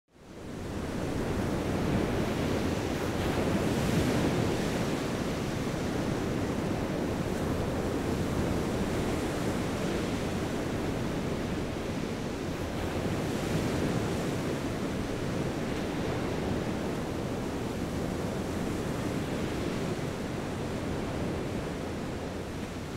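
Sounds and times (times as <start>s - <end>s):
wind: 0.1s - 22.9s
ocean surf washing: 0.4s - 22.9s.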